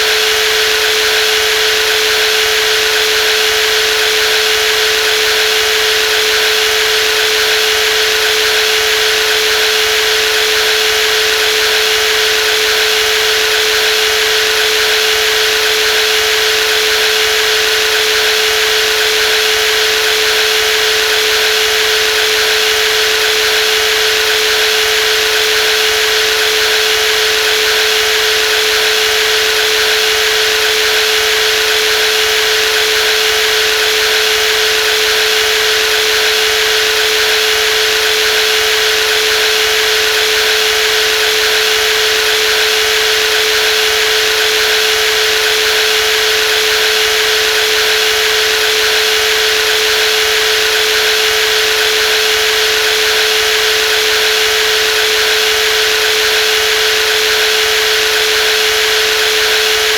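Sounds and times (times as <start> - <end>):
jigsaw whining: 0.0 - 59.9.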